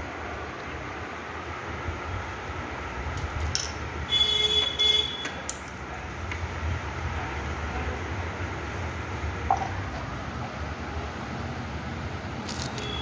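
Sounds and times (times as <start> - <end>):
low road traffic rumble: 0.0 - 13.0.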